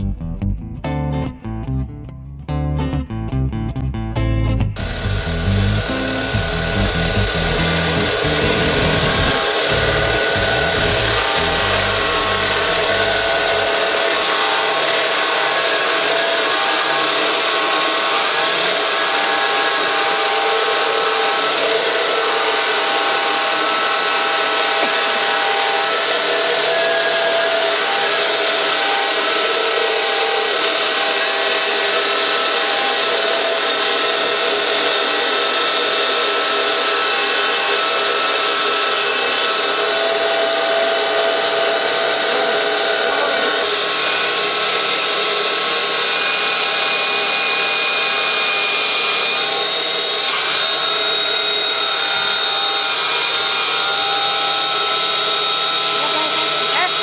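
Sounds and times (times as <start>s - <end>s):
band saw motor whine: 4.8s - 57.0s
saw blade rasping through wood: 4.8s - 57.0s.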